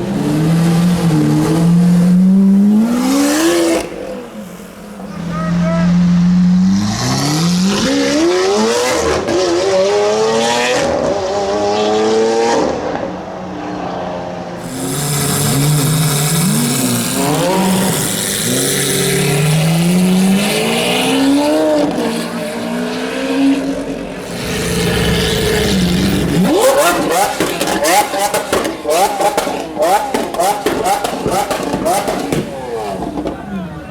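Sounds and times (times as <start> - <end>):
sports car engine revving: 0.0 - 12.9, 14.6 - 33.9.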